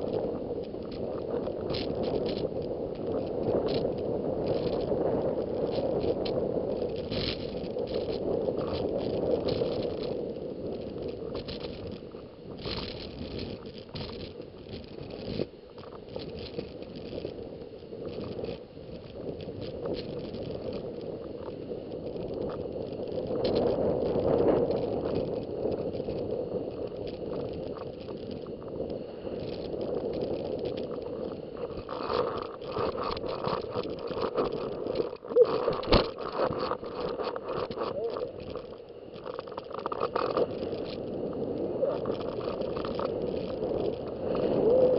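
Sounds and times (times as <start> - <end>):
skis scraping over snow: 0.0 - 44.9.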